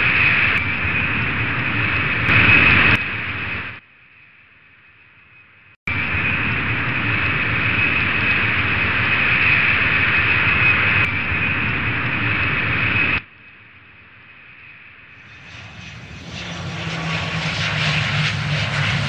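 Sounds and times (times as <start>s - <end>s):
jet engines rushing and whining: 0.0s - 3.8s, 5.9s - 19.0s.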